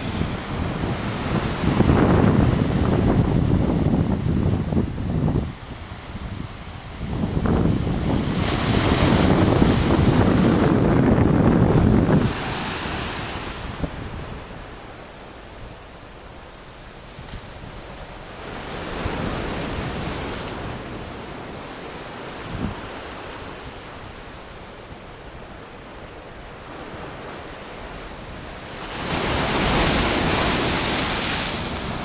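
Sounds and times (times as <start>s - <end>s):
sea waves washing onto shore: 0.0s - 32.0s
wind on microphone: 0.0s - 32.0s.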